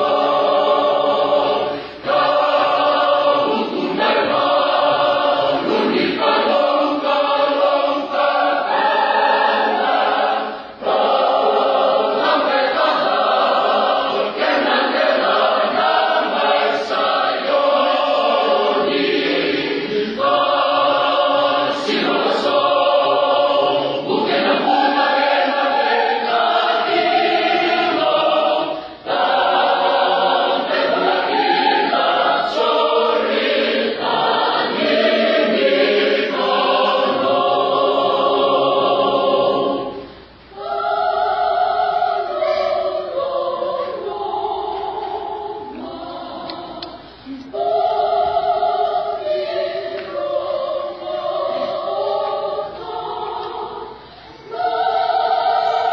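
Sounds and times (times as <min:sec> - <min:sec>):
choir singing unaccompanied: 0:00.0 - 0:55.9.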